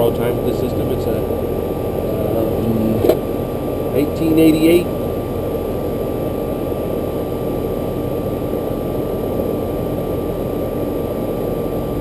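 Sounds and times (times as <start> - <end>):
air conditioner unit running: 0.0 - 12.0.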